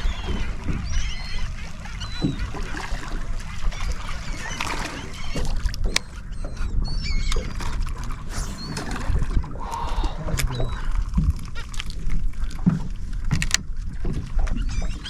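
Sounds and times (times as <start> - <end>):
seabirds calling: 0.0 - 12.4.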